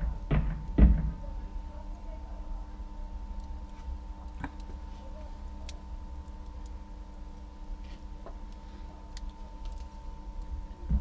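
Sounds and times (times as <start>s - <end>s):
charcoal ticking and popping: 0.0s - 11.0s
low hum: 0.0s - 11.0s.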